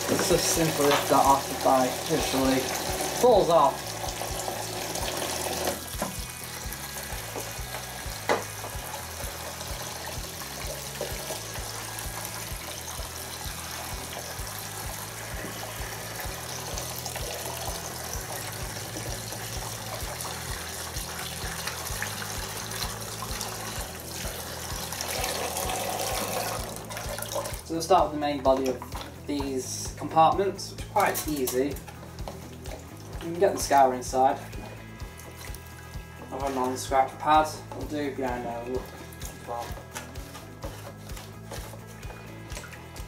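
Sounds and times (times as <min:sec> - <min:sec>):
water running from tap: 0:00.0 - 0:43.0.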